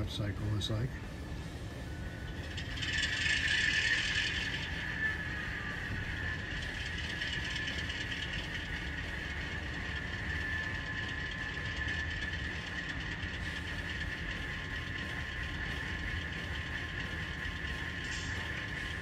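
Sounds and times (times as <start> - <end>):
model diesel engine sound idling: 0.0 - 19.0.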